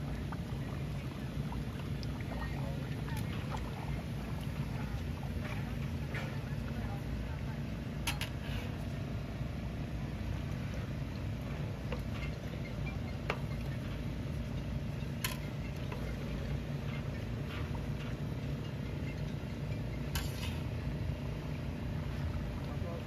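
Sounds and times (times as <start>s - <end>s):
low mechanical rumble: 0.0s - 23.0s
pot simmering: 0.0s - 23.0s.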